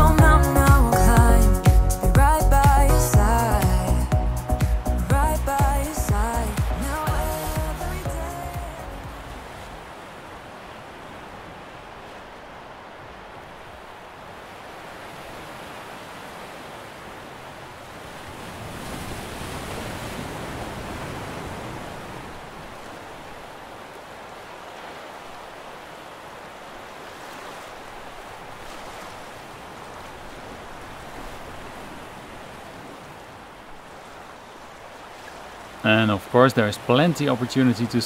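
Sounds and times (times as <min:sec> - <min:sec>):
water rushing along ship hull: 0:00.0 - 0:38.0.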